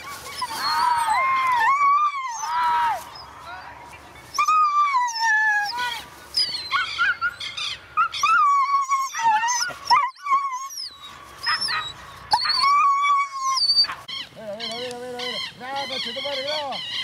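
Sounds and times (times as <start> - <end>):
dogs whining and yelping: 0.0 - 3.3, 4.2 - 17.0.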